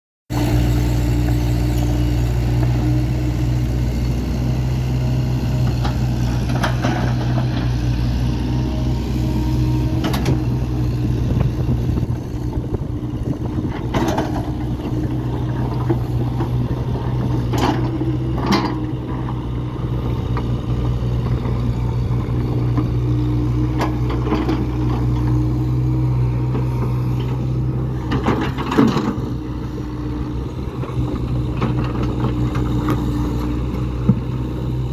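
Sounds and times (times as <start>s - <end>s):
diesel engine running: 0.3s - 34.9s.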